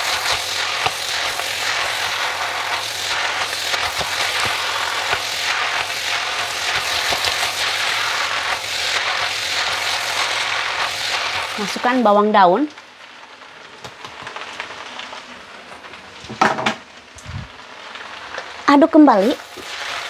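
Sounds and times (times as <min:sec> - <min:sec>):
noodles sizzling in a wok: 0:00.0 - 0:20.0.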